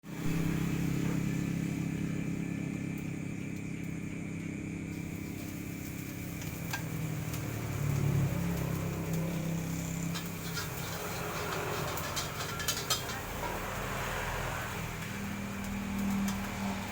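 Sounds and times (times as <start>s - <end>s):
engine running with low hum: 0.0s - 16.9s.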